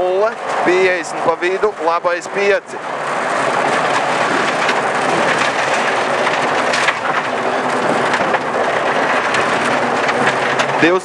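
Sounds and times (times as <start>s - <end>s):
car engine running: 0.0s - 11.0s
gravel stones rattling against car: 0.0s - 11.0s.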